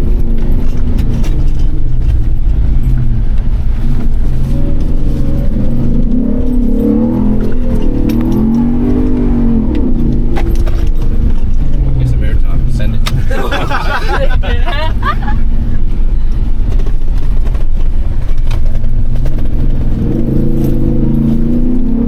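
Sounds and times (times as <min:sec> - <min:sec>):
low rumble of tyres: 0:00.0 - 0:22.0
truck engine revving: 0:00.0 - 0:22.0.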